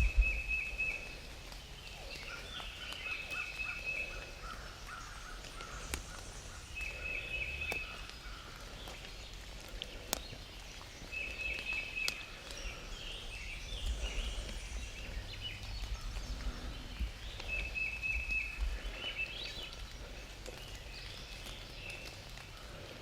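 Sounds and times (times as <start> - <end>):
steady low rumble: 0.0 - 3.2, 3.8 - 22.9
songbirds singing: 0.0 - 23.0.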